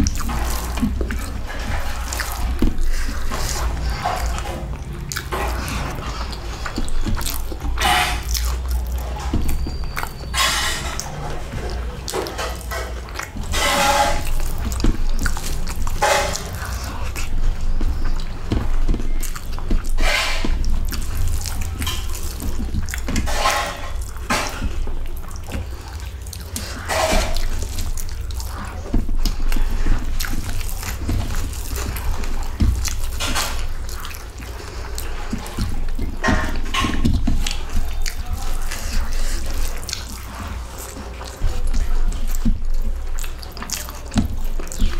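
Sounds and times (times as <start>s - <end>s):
fingers squishing rice: 0.0s - 44.9s
wet chewing with lip smacks: 0.0s - 44.9s.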